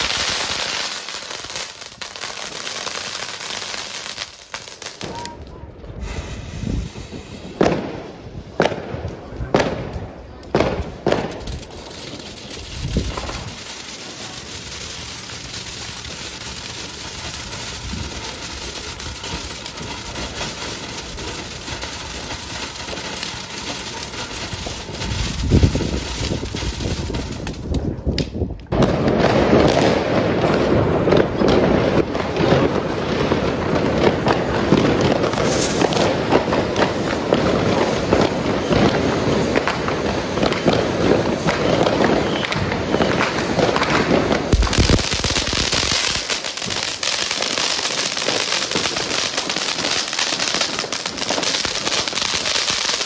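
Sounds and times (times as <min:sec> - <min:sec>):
firecracker string crackling: 0:00.0 - 0:53.0
firework bangs and crackling: 0:00.0 - 0:53.0.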